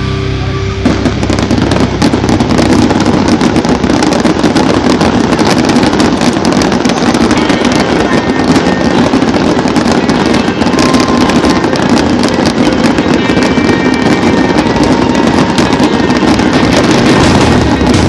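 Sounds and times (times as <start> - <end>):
music: 0.0 - 18.0
fireworks bangs and crackles: 0.8 - 18.0.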